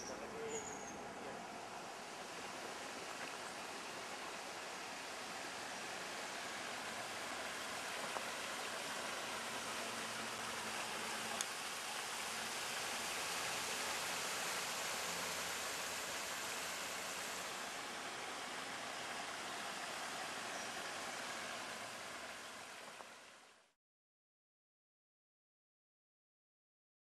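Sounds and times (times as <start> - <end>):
mountain stream rushing: 0.0 - 23.7.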